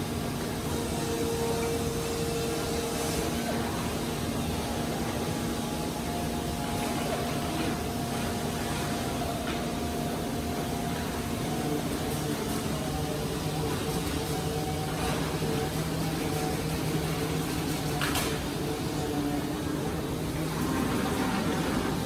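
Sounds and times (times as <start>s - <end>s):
factory machinery whir: 0.0s - 22.0s.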